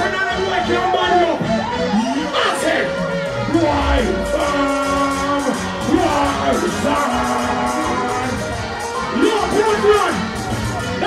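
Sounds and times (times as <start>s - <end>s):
dancehall music over loudspeakers: 0.0s - 11.0s.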